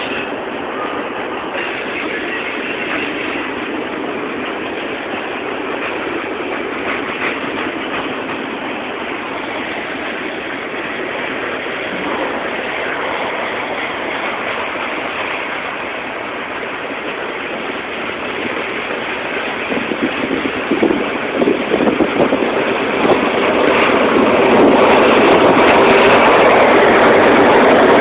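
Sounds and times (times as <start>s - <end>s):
steel wheels rolling on rail: 0.0s - 28.0s.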